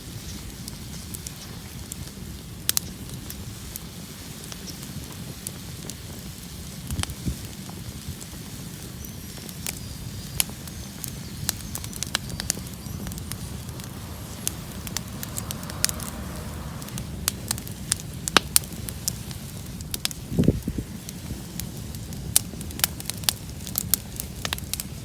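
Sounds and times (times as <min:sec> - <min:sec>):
bonfire crackling and popping: 0:00.0 - 0:25.0
low rumble of flames: 0:00.0 - 0:25.0.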